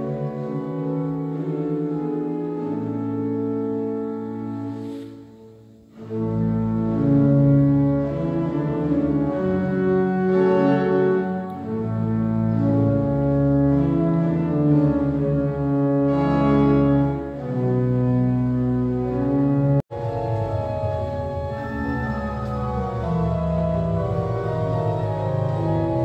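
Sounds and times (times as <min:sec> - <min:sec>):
pipe organ chords: 0:00.0 - 0:26.0.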